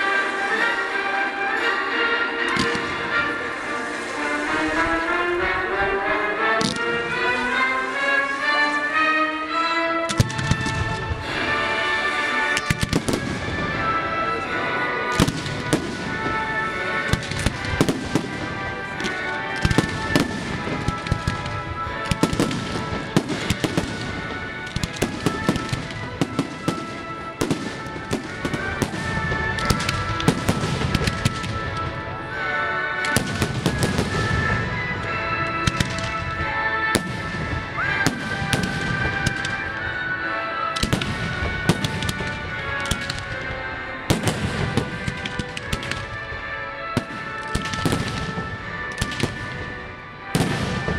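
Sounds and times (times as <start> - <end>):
fireworks bangs and crackles: 2.3 - 9.0, 10.1 - 50.9.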